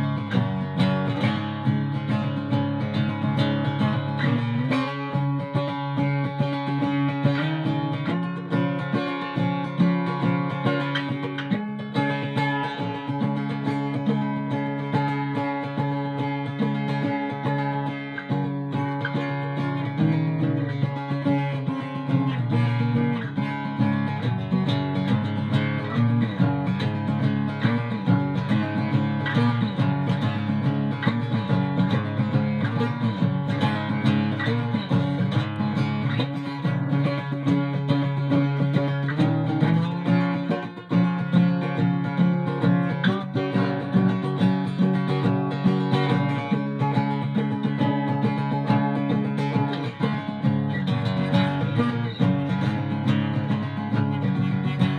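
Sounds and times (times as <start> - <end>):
acoustic guitar chords: 0.0 - 54.9.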